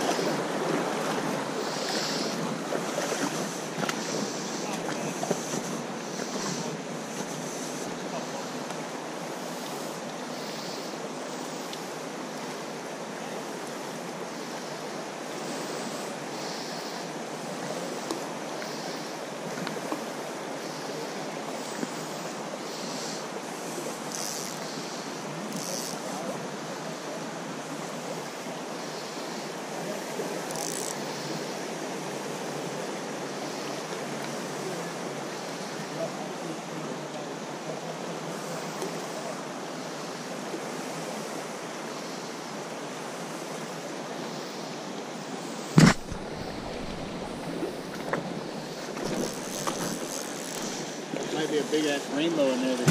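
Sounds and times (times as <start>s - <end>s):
shallow river rushing over stones: 0.0s - 16.4s, 24.8s - 52.9s.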